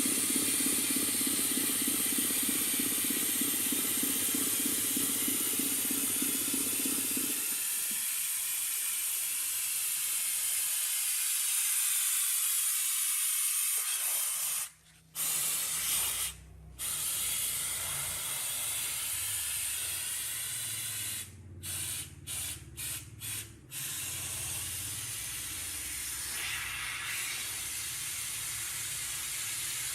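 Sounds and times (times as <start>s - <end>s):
compressed air hissing: 4.0s - 29.9s.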